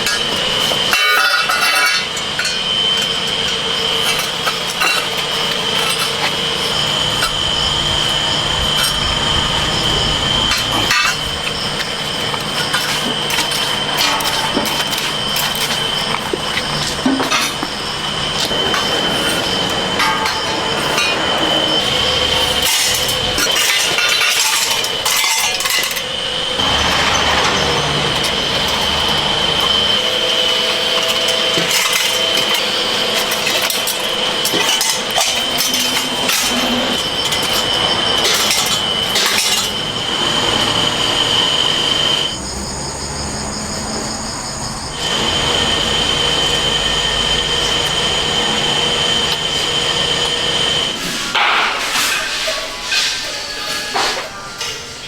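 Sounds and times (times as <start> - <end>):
machine high whine: 0.0 - 55.0.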